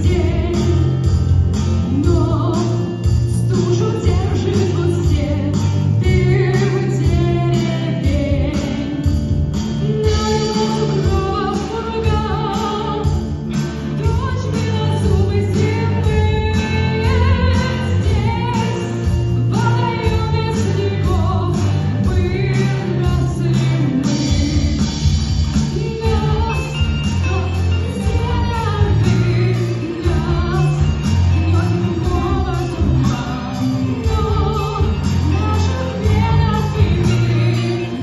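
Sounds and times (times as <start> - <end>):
rock band playing live: 0.0 - 38.0
person singing: 1.8 - 13.3, 13.9 - 38.0.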